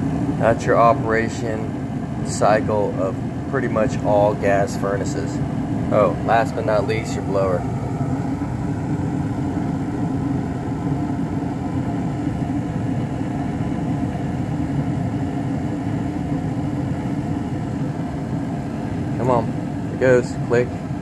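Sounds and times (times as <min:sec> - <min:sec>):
gas furnace humming: 0:00.0 - 0:21.0.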